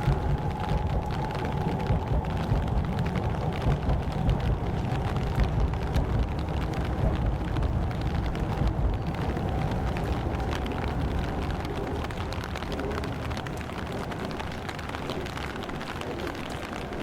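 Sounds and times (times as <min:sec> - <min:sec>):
rain drops ticking: 0:00.0 - 0:17.0
steady low rumble: 0:00.0 - 0:17.0.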